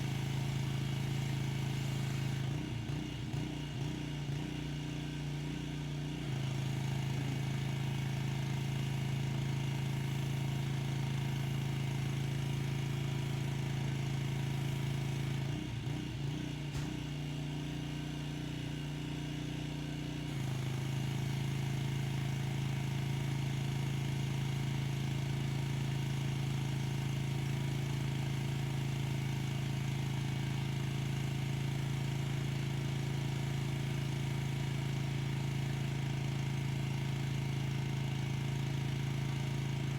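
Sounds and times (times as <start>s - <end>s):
pressure washer engine running: 0.0s - 5.5s, 6.2s - 19.2s, 20.3s - 39.9s.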